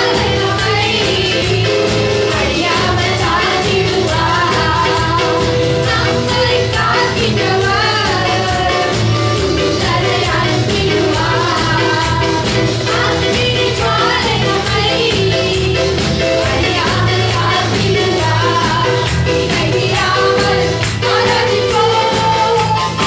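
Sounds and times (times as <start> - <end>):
amplified band accompaniment: 0.0 - 23.0
congregation singing: 0.0 - 23.0.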